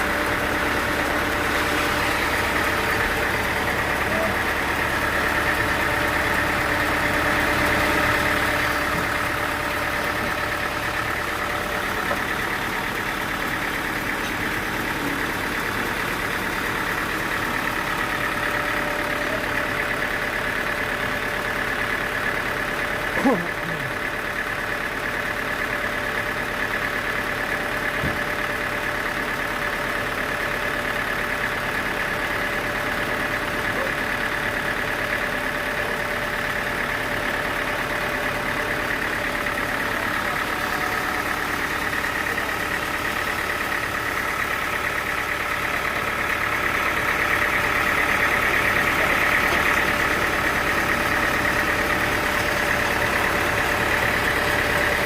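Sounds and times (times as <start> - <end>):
sawmill machinery whining hum: 0.0 - 55.0.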